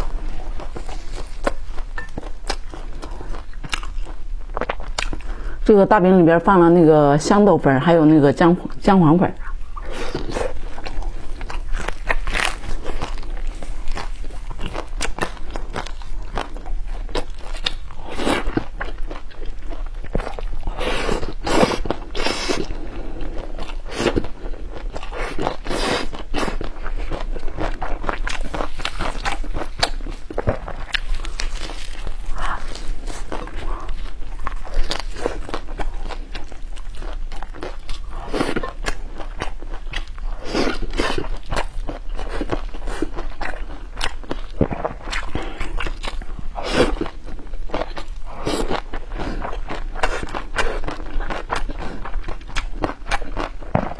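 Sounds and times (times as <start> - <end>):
person chewing food: 0.0 - 5.6, 8.6 - 53.9.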